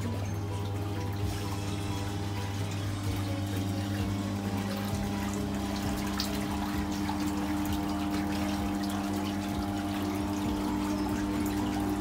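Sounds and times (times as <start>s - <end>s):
churning water: 0.0s - 12.0s
jet pump humming: 0.0s - 12.0s.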